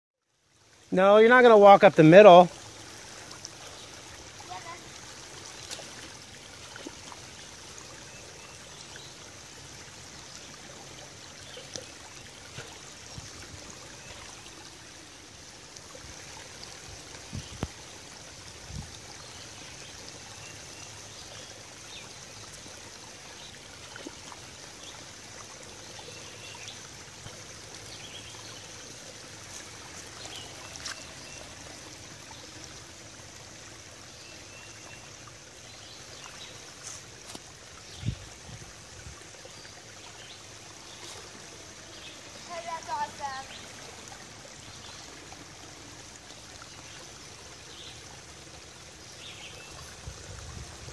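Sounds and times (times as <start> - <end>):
creek trickling over rocks: 0.2 - 50.9.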